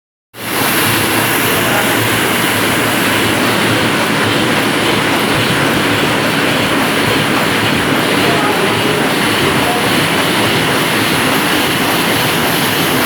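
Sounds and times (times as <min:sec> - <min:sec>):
faint mechanical ticking: 0:00.4 - 0:13.0
printing press clattering: 0:00.4 - 0:13.0.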